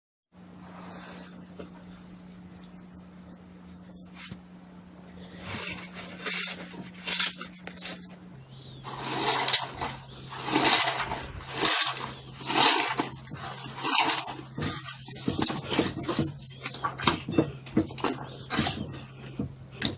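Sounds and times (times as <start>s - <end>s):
faint low hum: 0.4s - 19.9s.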